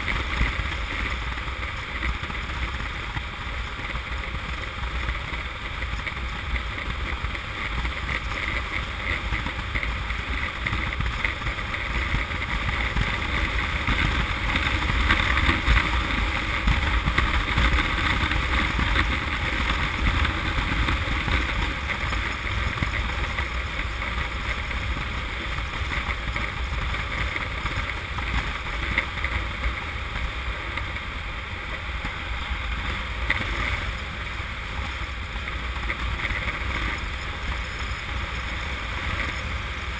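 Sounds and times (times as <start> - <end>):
motorcycle engine running: 0.0 - 39.9
wind rushing over camera: 0.0 - 39.9.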